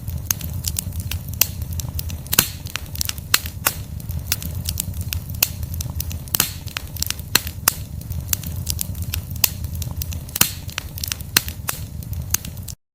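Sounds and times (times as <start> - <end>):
campfire crackling and popping: 0.0 - 12.8
low steady rumble: 0.0 - 12.8.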